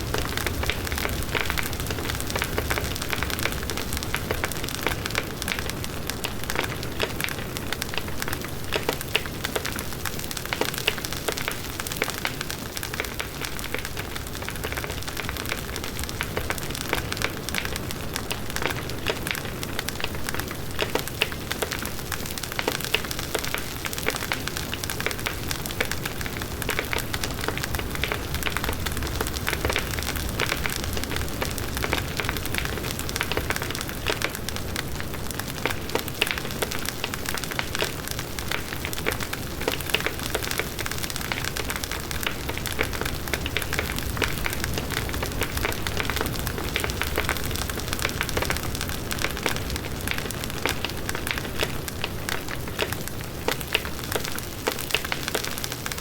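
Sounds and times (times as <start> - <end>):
bonfire crackling: 0.0 - 56.0.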